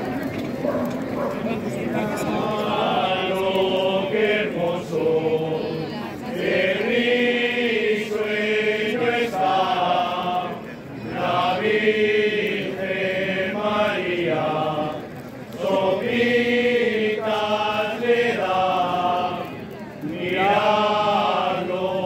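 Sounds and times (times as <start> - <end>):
group singing a chant: 1.6 - 22.0.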